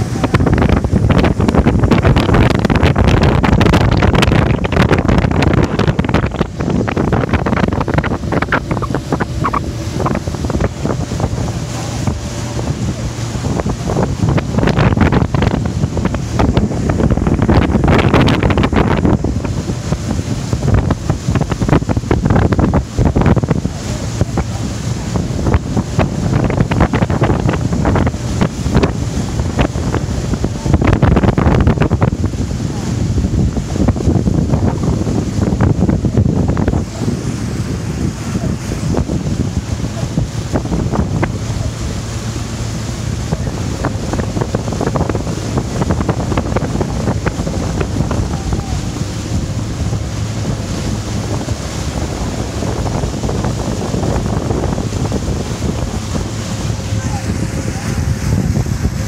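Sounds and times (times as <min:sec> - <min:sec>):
boat running: 0:00.0 - 0:59.0
water slaps and splashes: 0:00.0 - 0:59.0
wind buffeting microphone: 0:00.0 - 0:59.0.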